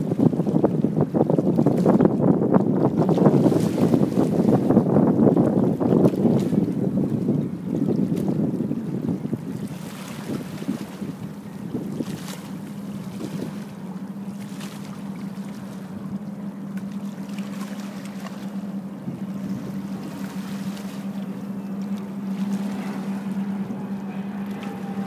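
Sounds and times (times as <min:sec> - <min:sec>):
low mechanical hum: 0:00.0 - 0:25.0
river water running: 0:00.0 - 0:25.0.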